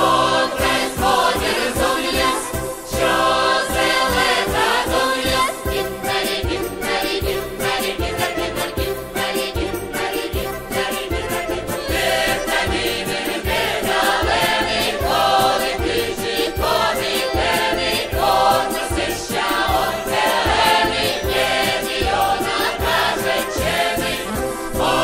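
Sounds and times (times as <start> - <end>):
voices singing together: 0.0 - 25.0.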